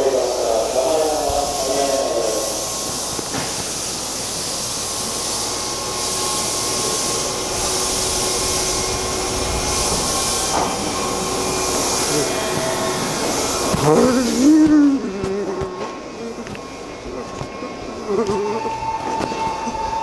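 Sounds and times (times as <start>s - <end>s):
high pulsing hiss: 0.0s - 20.0s
hiss of air and running equipment: 0.0s - 20.0s.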